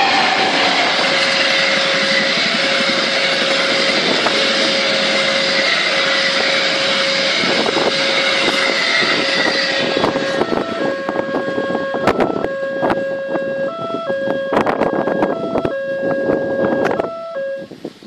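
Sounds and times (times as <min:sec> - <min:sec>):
train wheels rushing on rails: 0:00.0 - 0:17.1
steady tone: 0:00.0 - 0:17.7.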